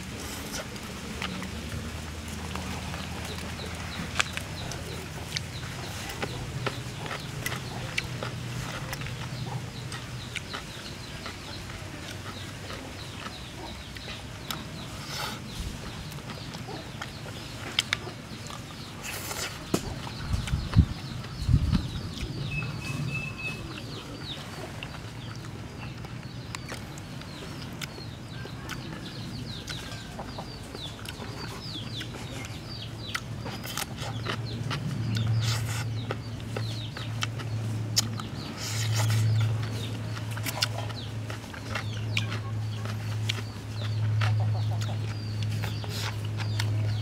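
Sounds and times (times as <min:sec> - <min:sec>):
chickens clucking: 0:00.0 - 0:47.0
small birds chirping: 0:00.0 - 0:47.0.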